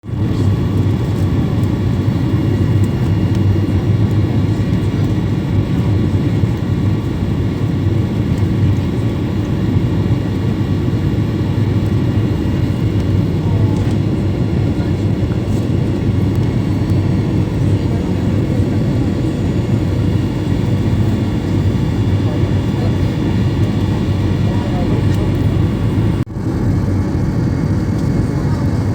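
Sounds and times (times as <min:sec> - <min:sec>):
airplane engines droning: 0:00.0 - 0:28.9.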